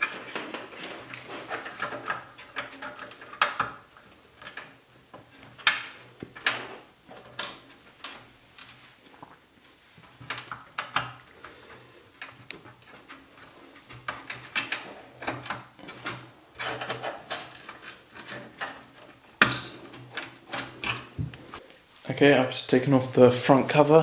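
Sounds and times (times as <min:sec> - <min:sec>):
plastic cover clicking and creaking: 0:00.0 - 0:09.4, 0:10.1 - 0:21.6.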